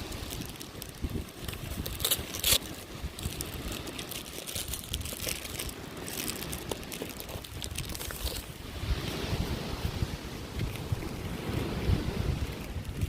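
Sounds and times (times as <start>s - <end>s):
crinkling handling noise: 0.0s - 9.2s, 10.4s - 13.0s
wind buffeting microphone: 0.0s - 13.0s.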